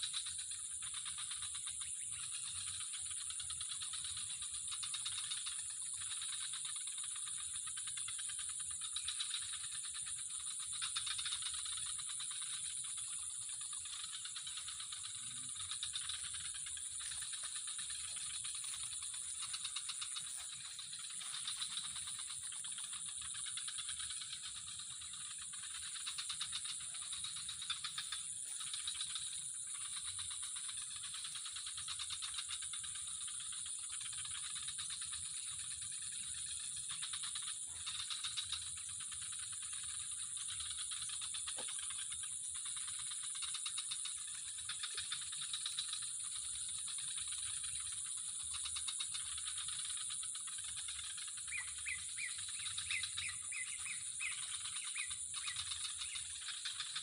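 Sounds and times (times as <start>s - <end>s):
insect chorus trilling: 0.0s - 57.0s
rapid insect chirps: 0.0s - 57.0s.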